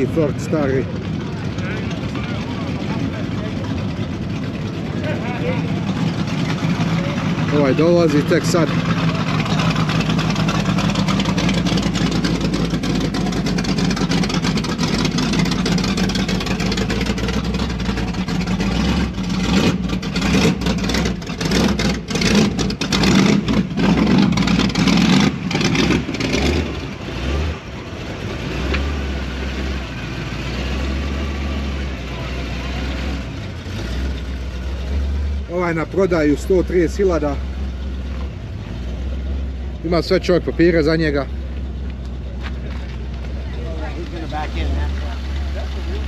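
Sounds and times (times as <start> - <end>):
car engine running: 0.0 - 46.0.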